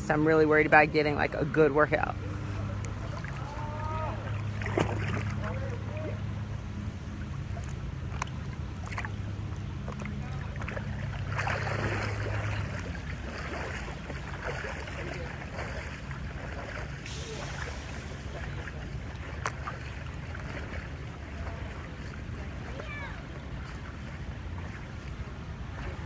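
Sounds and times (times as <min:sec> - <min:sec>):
low steady hum: 0:00.0 - 0:26.0
pool water splashing: 0:00.0 - 0:26.0.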